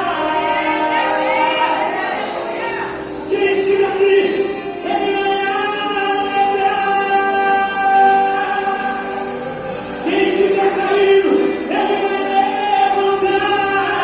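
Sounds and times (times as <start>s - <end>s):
backing music: 0.0s - 14.0s
voices singing gospel song: 0.0s - 14.0s.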